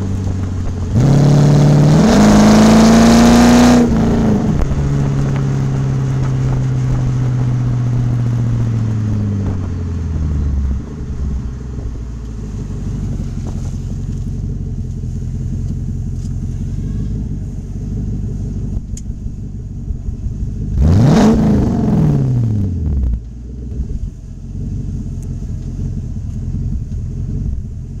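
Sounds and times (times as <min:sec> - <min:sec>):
car engine revving and idling: 0:00.0 - 0:28.0.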